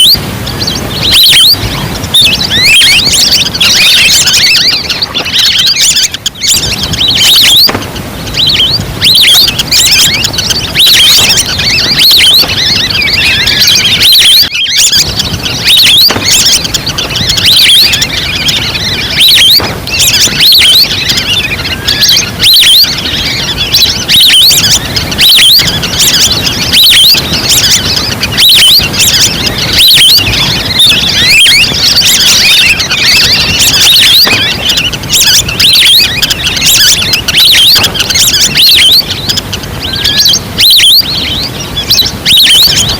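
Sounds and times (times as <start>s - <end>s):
ducks calling with whistles: 0.0s - 42.9s.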